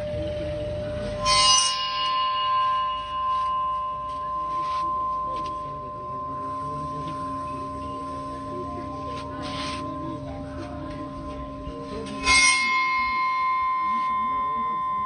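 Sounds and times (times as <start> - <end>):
bell-like tone struck: 0.0 - 15.0
clear tone ringing: 0.0 - 15.0.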